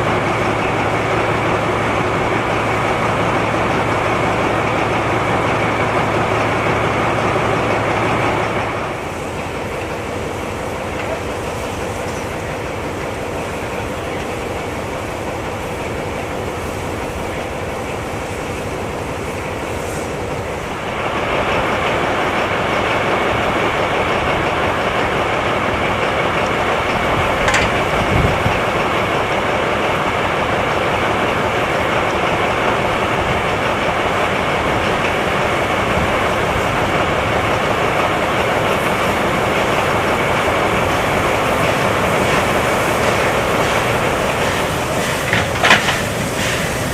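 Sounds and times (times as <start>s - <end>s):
steam train rumble and hiss: 0.0s - 46.9s
wheels on track: 0.0s - 46.9s.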